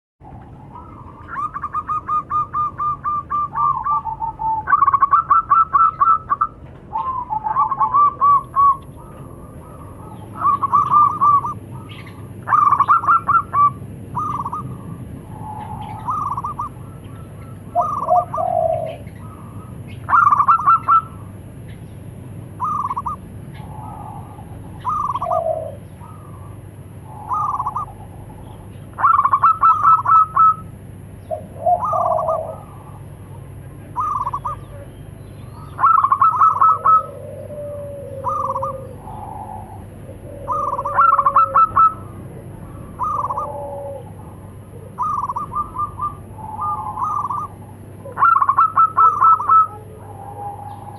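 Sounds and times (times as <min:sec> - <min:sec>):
doves cooing: 0:00.2 - 0:50.9.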